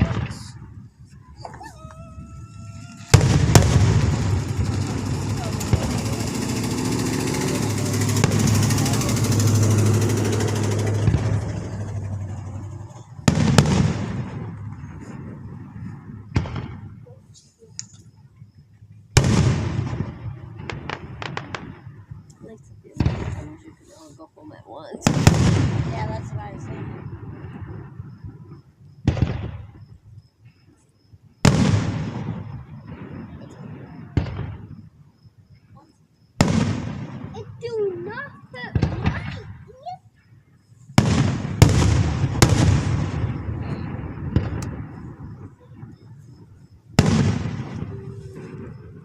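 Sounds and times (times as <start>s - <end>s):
fireworks bangs: 0.0s - 17.8s, 19.0s - 30.6s, 31.4s - 35.0s, 36.4s - 40.0s, 40.8s - 49.0s
fireworks crackling barrage: 0.0s - 18.0s, 19.0s - 29.9s, 31.4s - 34.9s, 36.4s - 49.0s.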